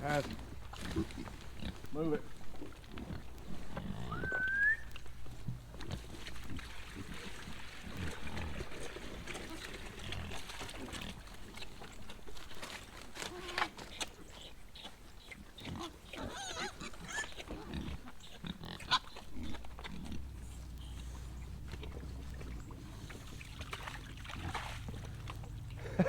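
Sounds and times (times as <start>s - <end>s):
pigs grunting and squealing: 0.0s - 4.8s, 5.8s - 11.8s, 13.2s - 26.0s.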